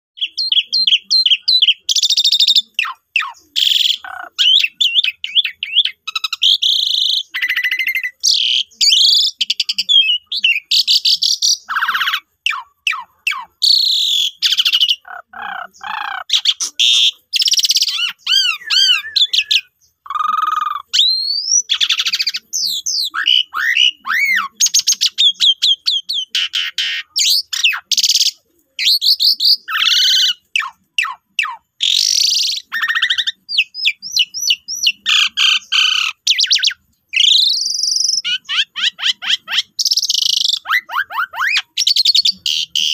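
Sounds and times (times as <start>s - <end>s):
starling singing varied whistles: 0.2s - 42.9s.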